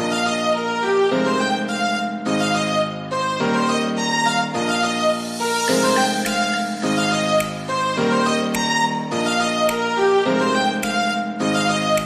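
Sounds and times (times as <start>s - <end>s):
string melody of held notes: 0.0s - 12.0s.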